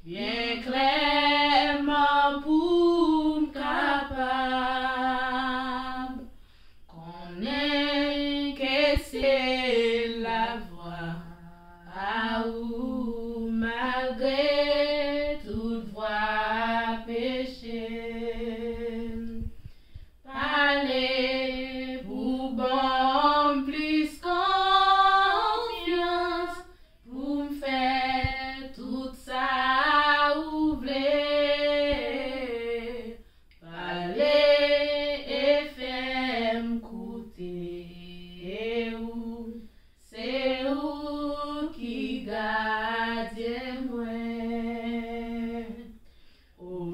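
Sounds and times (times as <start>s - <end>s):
women singing a cappella hymn: 0.0s - 46.9s.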